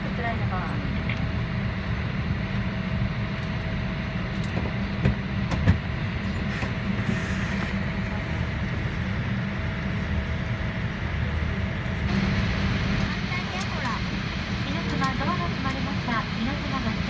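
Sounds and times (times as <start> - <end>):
low cabin hum: 0.0 - 17.0.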